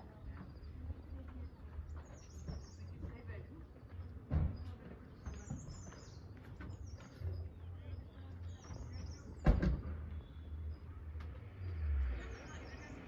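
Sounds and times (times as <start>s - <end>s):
small birds chirping trills: 0.0s - 13.0s.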